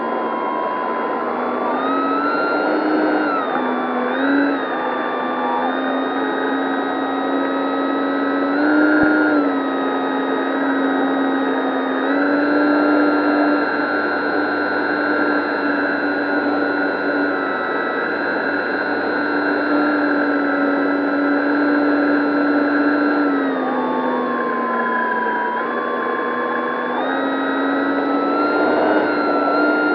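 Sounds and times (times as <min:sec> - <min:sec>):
electric motor and propeller whining: 0:00.0 - 0:29.9.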